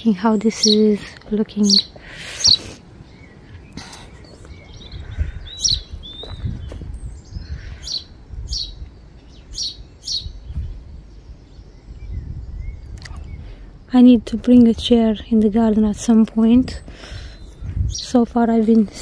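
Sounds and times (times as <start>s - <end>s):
small bird chirping: 0.0s - 19.0s.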